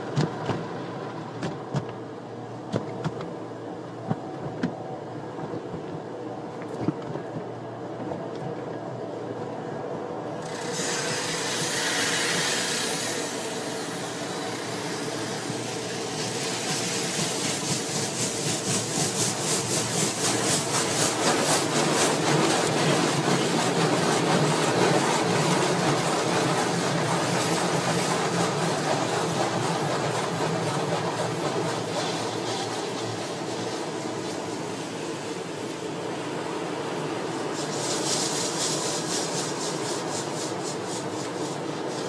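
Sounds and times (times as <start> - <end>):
car wash spray and machinery: 0.0 - 42.0.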